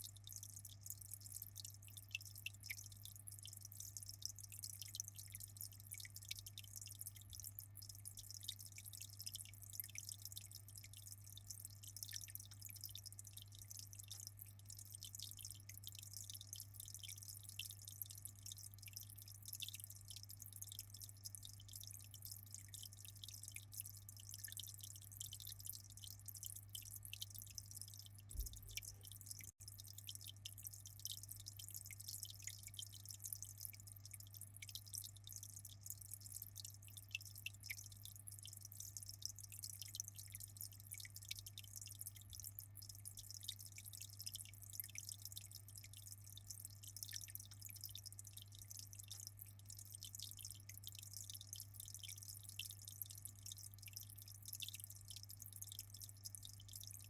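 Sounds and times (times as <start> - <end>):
water dripping and trickling: 0.0 - 57.0.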